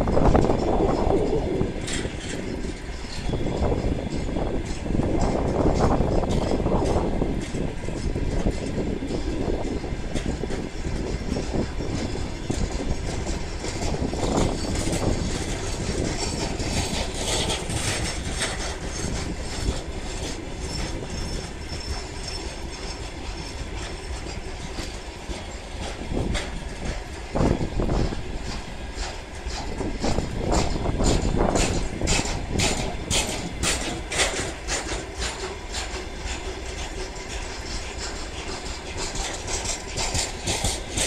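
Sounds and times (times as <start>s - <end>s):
clicks of wheels crossing rail joints: 0.0s - 41.0s
rumble of train wheels on rail: 0.0s - 41.0s.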